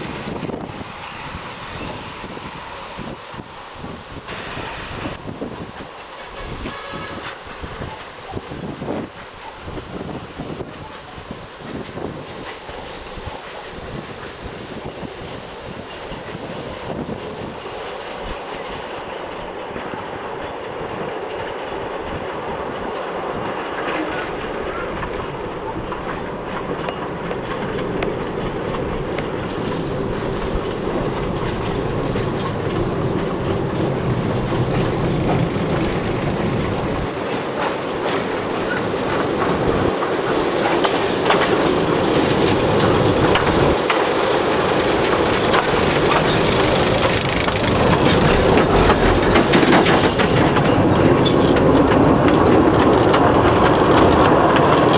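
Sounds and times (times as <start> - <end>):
train wagons clattering over rails: 0.0 - 54.9.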